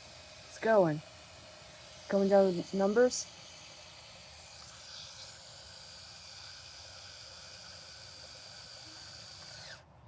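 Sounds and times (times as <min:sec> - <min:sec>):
camera motor winding film: 0:00.0 - 0:09.9
hiss: 0:01.7 - 0:09.8.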